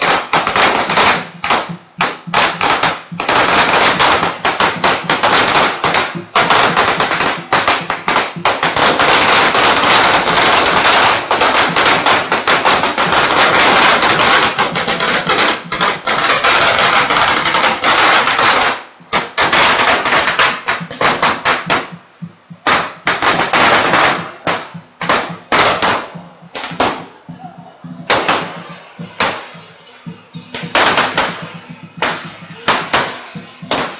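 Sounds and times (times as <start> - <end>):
firecrackers banging: 0.0 - 33.9.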